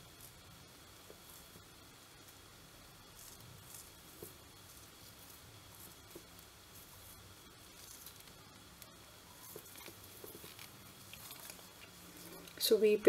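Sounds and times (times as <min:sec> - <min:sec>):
knitting needle and yarn rustling: 0:00.0 - 0:13.0.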